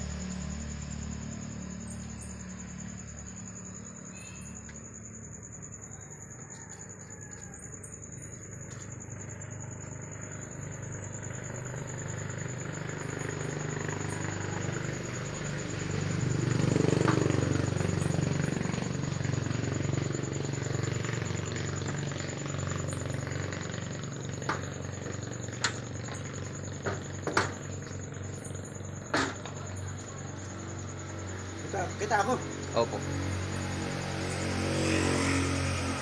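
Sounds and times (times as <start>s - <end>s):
vehicle engine running: 0.0s - 5.4s, 8.0s - 36.0s.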